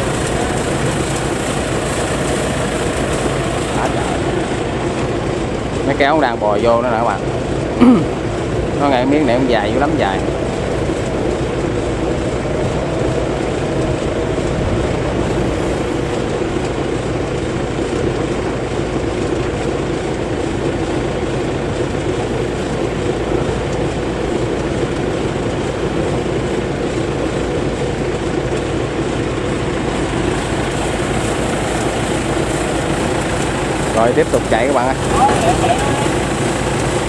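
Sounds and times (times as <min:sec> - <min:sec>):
combine harvester engine droning: 0:00.0 - 0:37.0.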